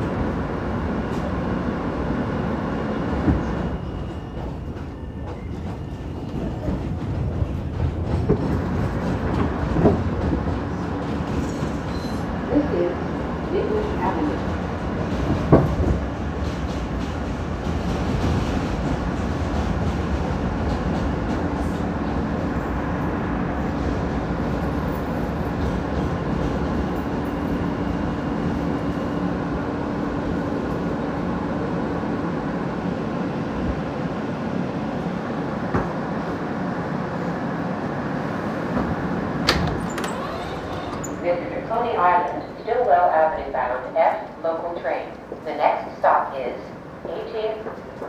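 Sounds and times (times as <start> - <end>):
subway car rumble and rail noise: 0.0 - 48.0.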